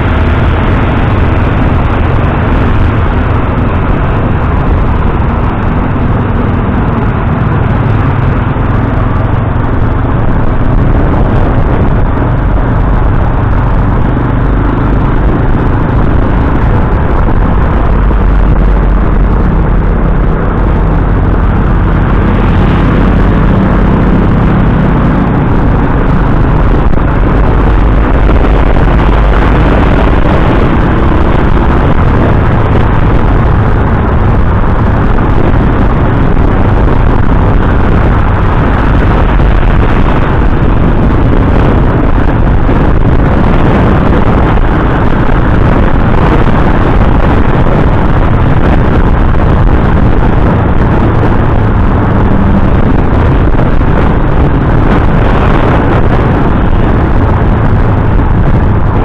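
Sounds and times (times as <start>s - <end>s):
motorcycle engine rumble: 0.0s - 59.0s
wind buffeting microphone: 0.0s - 59.0s.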